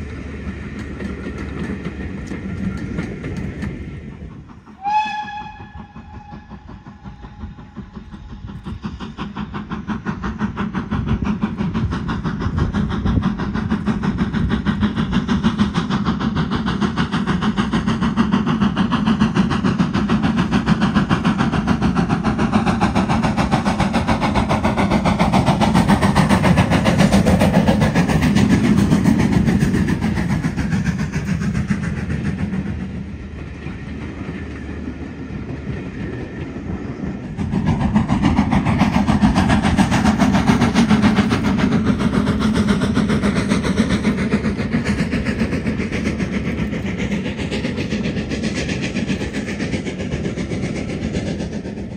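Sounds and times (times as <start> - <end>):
steam locomotive exhaust beats: 0.0 - 51.9.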